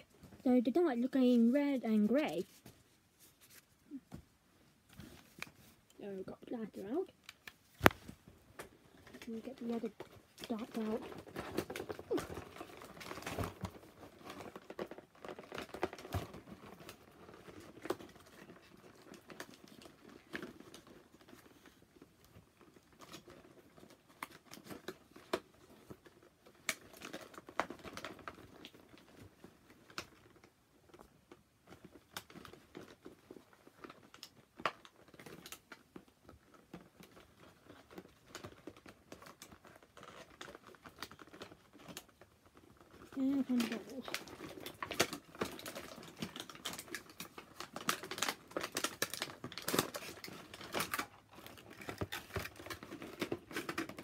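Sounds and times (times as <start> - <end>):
plastic packaging crinkling: 5.0 - 54.0.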